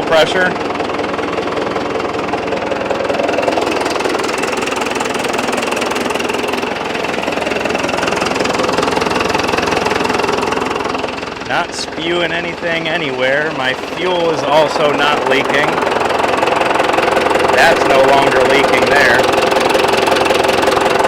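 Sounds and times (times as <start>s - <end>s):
tractor diesel engine clattering: 0.0s - 21.0s.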